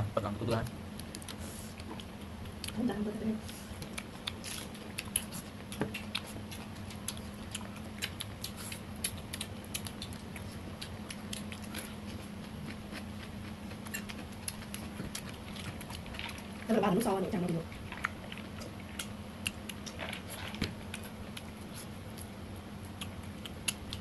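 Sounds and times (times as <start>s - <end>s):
chewing with wet smacks: 0.6s - 24.0s.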